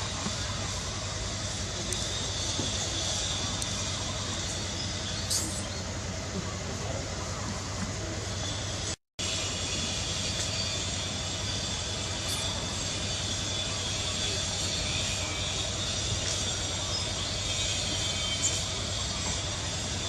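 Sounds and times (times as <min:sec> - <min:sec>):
outdoor background drone and hiss: 0:00.0 - 0:20.0.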